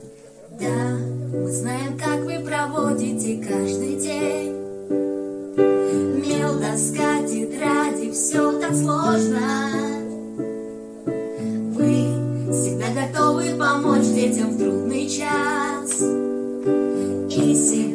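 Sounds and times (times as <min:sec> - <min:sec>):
piano chords: 0:00.0 - 0:17.9
woman and girl singing: 0:00.4 - 0:10.6, 0:11.5 - 0:17.9.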